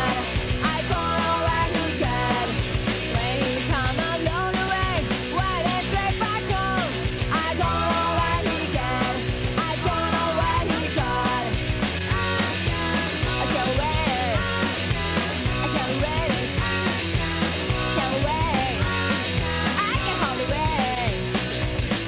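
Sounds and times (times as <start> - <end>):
punk rock song with singer: 0.0 - 22.0.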